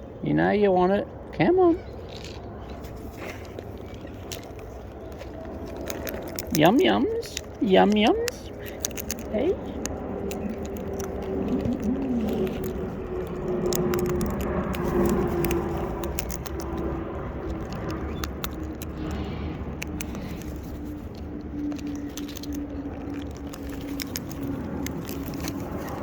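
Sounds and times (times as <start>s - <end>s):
birds pecking at food: 0.0s - 26.0s
vehicle engine hum: 0.0s - 26.0s.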